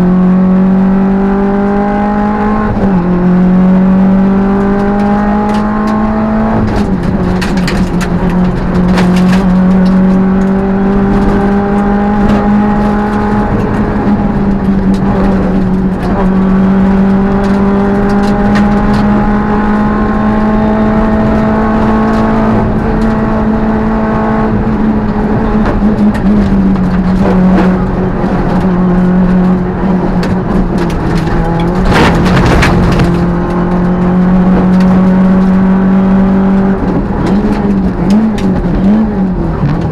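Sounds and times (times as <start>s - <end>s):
rally car engine revving: 0.0s - 39.9s
sharp clicks and knocks: 4.4s - 23.6s, 24.3s - 39.9s.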